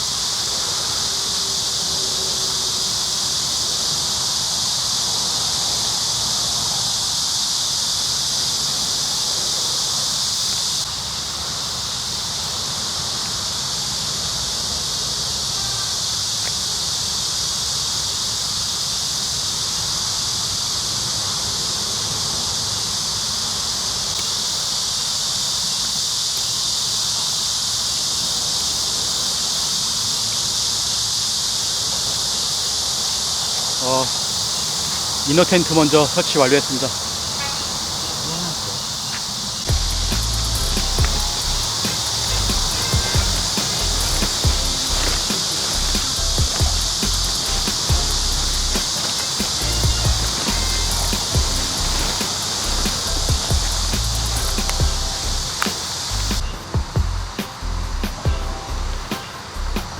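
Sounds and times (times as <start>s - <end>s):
insect chorus drone: 0.0s - 59.9s.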